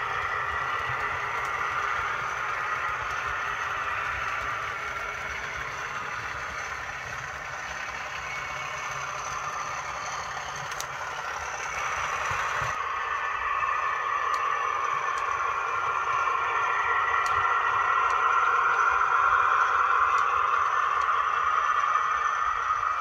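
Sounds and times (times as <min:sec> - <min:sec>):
model train rattling on track: 0:00.0 - 0:23.0.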